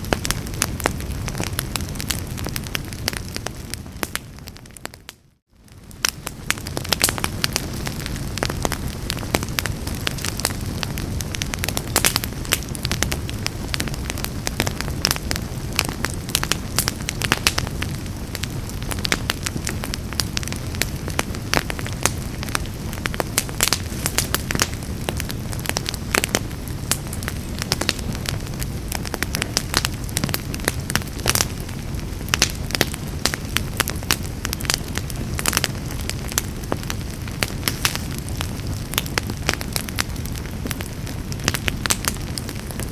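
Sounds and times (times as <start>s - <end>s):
fire crackling and popping: 0.0s - 42.9s
low rumble of flame: 0.0s - 42.9s.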